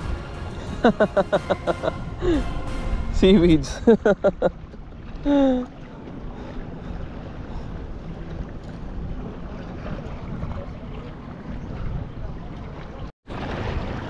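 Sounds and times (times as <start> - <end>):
water sloshing around boat: 0.0 - 14.0
wind buffeting microphone: 0.0 - 14.0.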